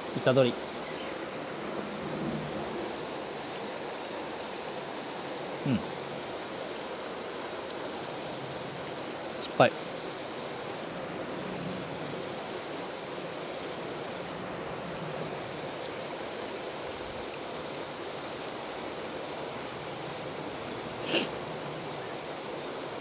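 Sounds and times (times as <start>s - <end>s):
stream flowing: 0.0s - 23.0s.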